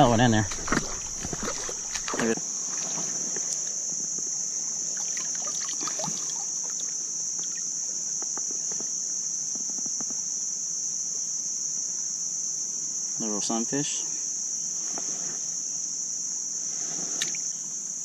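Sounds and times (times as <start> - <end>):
insect chorus shrilling: 0.0 - 18.0.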